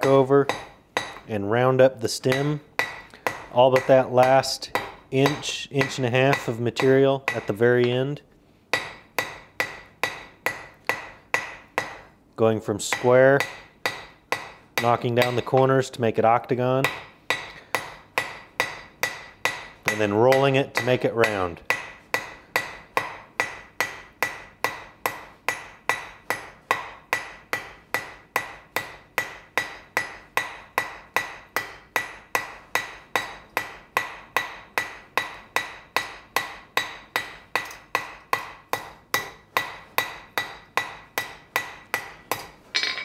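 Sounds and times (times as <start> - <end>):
hammer striking steel on anvil: 0.0 - 1.3, 2.2 - 8.1, 8.7 - 12.1, 12.9 - 15.8, 16.6 - 43.0.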